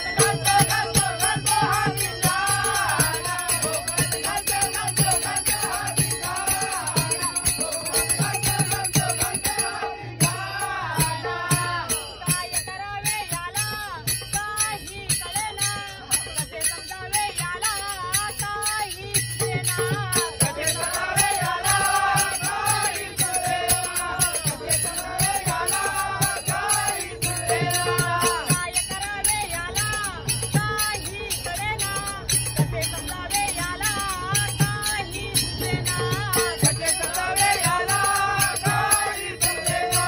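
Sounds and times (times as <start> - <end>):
men singing together: 0.0 - 40.0
small hand cymbals ringing: 0.0 - 40.0.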